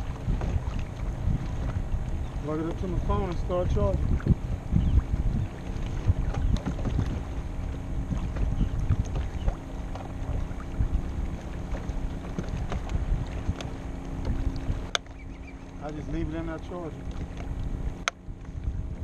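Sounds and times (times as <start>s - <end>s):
water lapping against kayak: 0.0s - 19.0s
wind buffeting microphone: 0.0s - 19.0s.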